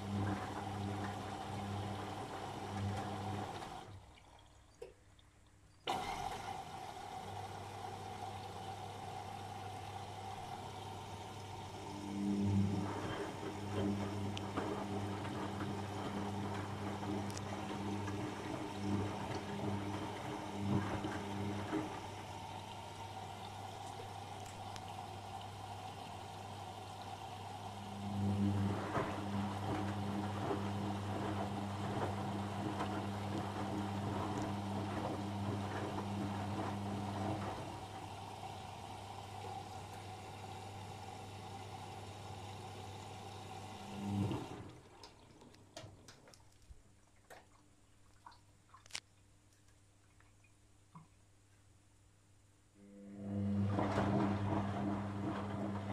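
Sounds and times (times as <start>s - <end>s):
washing machine drum motor humming: 0.0s - 4.4s, 5.8s - 46.4s, 52.8s - 55.9s
water sloshing in washing machine: 0.0s - 51.2s, 52.9s - 55.9s.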